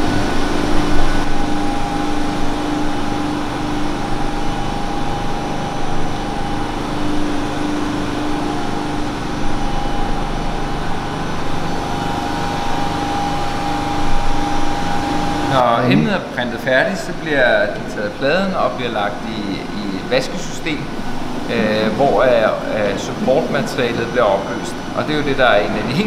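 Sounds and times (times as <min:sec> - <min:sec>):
fan noise: 0:00.0 - 0:26.0
humming motor tones: 0:00.0 - 0:26.0.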